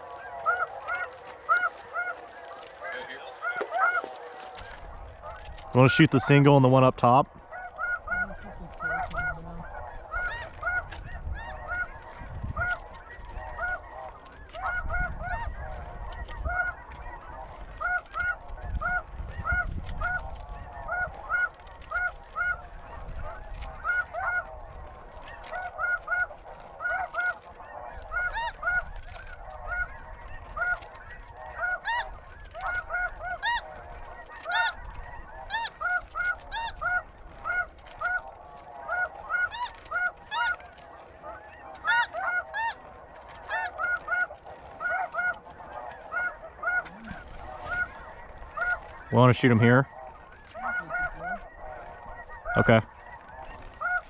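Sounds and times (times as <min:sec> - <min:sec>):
geese honking: 0:00.0 - 0:54.0.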